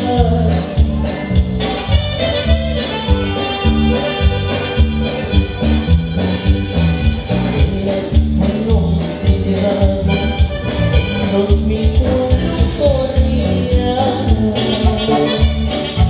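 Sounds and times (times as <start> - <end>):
live band playing dance music: 0.0 - 16.0.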